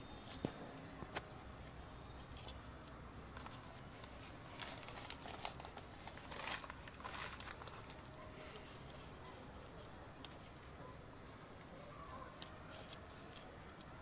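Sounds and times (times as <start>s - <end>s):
hands rustling in soil: 0.0s - 14.0s.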